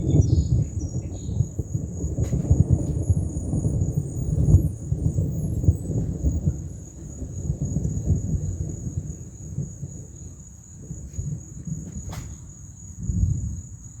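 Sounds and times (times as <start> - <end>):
insects trilling: 0.0 - 14.0
thunder rumbling: 0.0 - 14.0.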